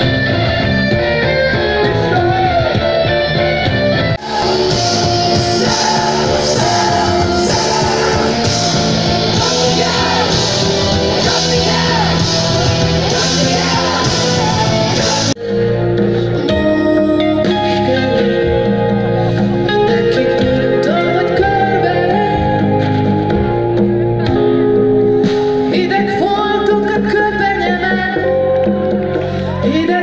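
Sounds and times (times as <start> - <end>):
electric guitar: 0.0 - 30.0
live rock band: 0.0 - 30.0
person singing: 4.2 - 24.8, 25.6 - 30.0.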